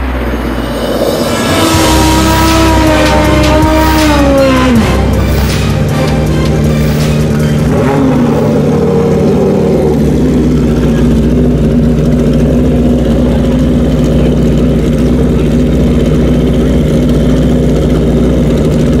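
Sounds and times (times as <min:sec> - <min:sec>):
motorcycles idling: 0:00.0 - 0:19.0.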